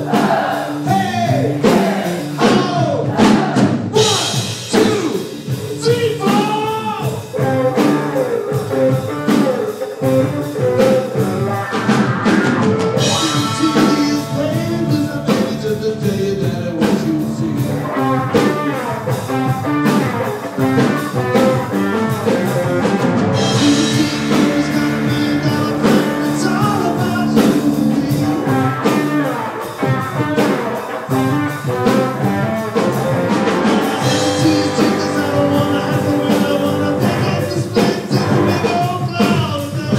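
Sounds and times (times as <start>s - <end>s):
drum kit: 0.0s - 39.9s
electric guitar: 0.0s - 39.9s
electric bass: 7.2s - 39.9s.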